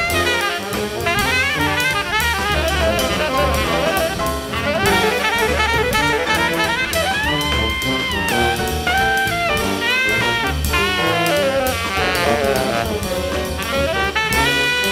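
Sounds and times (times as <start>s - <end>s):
held horn note: 0.0s - 14.9s
live jazz band playing: 0.0s - 14.9s.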